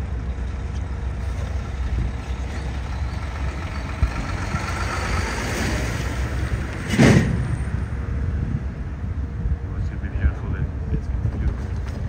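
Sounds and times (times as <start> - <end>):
freight train passing: 0.0 - 11.9.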